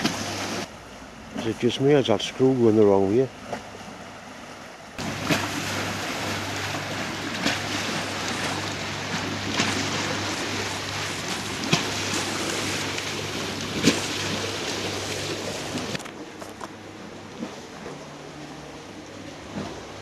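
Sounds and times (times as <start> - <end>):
steady low hum: 0.0 - 20.0
water rushing: 0.0 - 20.0.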